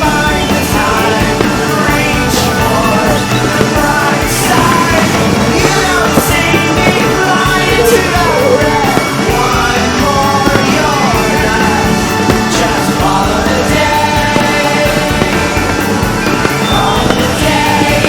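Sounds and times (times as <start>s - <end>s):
person singing: 0.0s - 18.0s
rock band playing: 0.0s - 18.0s.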